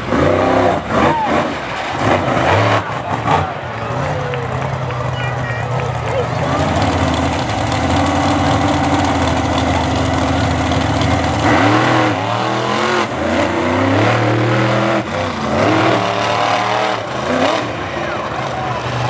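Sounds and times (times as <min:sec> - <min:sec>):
monster truck engines revving: 0:00.0 - 0:19.0.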